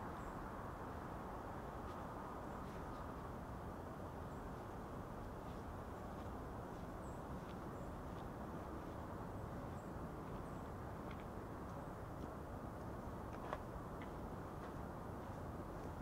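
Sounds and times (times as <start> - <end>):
low rushing outdoor ambience: 0.0 - 16.0.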